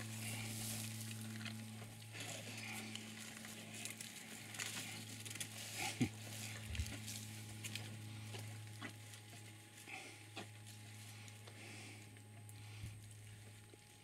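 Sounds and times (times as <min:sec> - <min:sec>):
twigs crackling and snapping: 0:00.0 - 0:11.6
elephant chewing: 0:00.0 - 0:14.0
low hum: 0:00.0 - 0:14.0.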